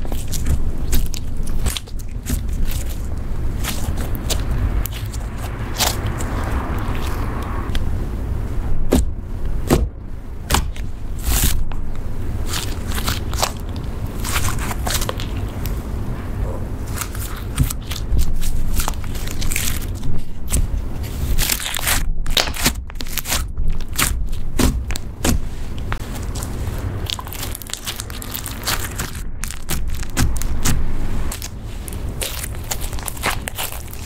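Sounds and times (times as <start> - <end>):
slime clicking and crackling: 0.0 - 7.8, 10.5 - 15.8, 16.4 - 34.0.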